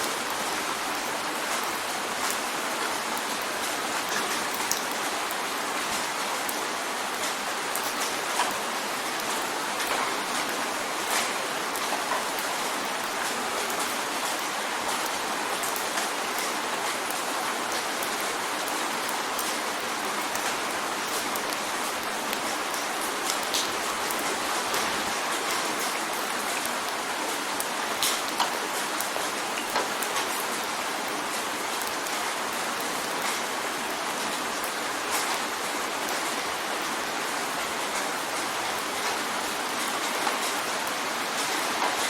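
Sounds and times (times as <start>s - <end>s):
rain on a window pane: 0.0s - 42.0s.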